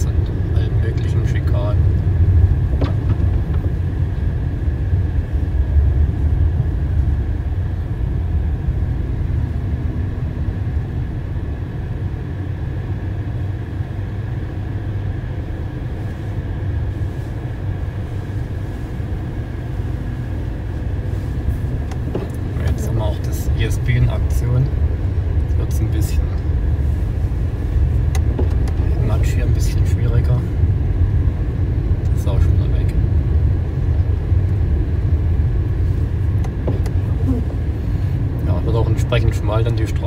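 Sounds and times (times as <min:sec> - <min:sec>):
tyre and road noise rumble: 0:00.0 - 0:40.0.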